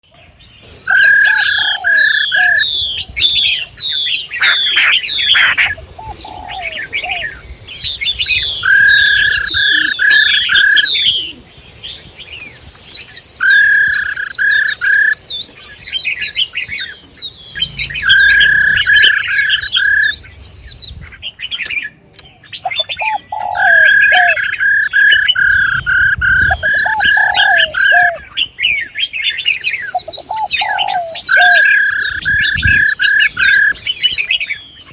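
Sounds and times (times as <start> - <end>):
bird chirps and twitters: 0.0 - 34.9
songbird whistled notes: 0.6 - 34.9.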